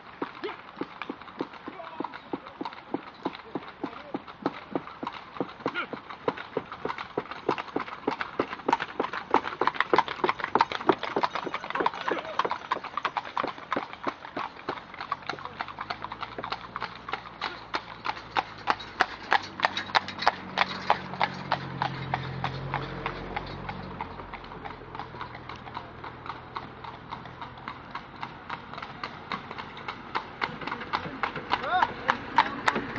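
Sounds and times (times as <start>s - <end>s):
horse hooves clip-clopping: 0.0s - 32.9s.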